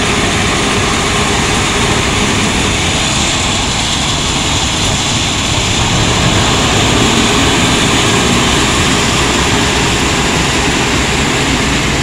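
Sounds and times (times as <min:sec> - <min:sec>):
wheel loader diesel engine: 0:00.0 - 0:12.0.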